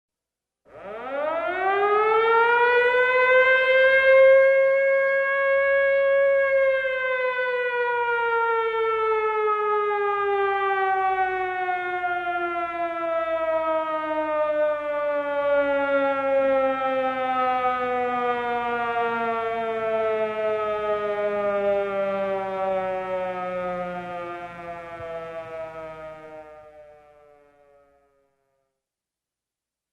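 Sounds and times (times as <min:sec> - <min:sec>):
emergency siren wailing: 0:00.7 - 0:28.5.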